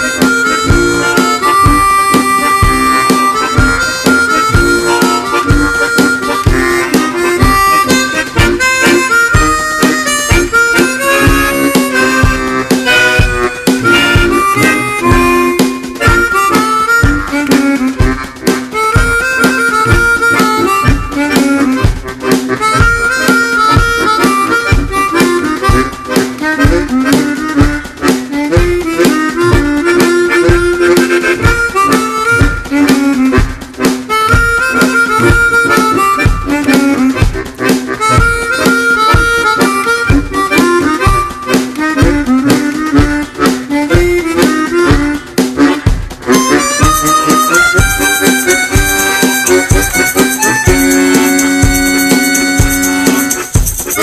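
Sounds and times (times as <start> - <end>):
harmonica melody: 0.0 - 54.0
steady beat: 0.0 - 54.0.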